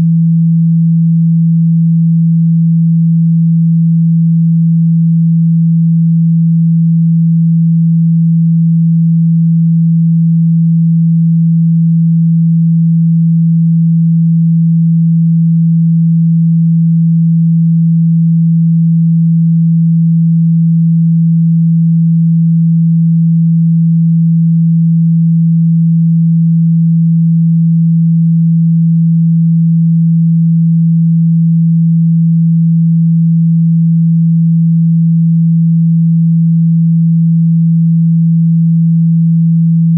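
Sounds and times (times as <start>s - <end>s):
low sine tone hum: 0.0s - 39.9s.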